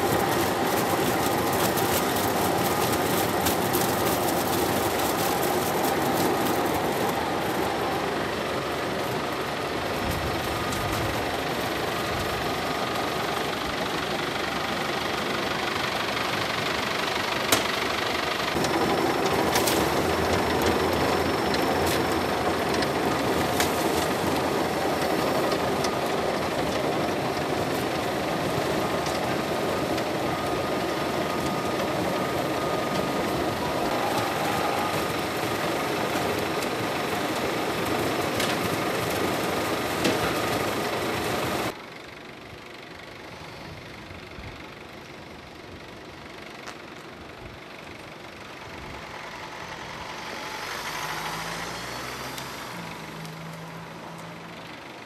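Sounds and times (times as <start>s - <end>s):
conveyor machinery running: 0.0s - 51.8s.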